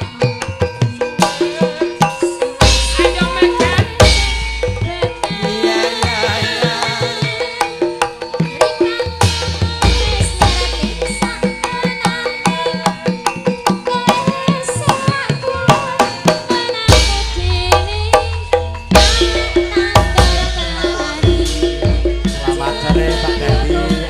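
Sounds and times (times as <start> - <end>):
ringing metallophones: 0.0 - 24.0
woman singing: 0.0 - 24.0.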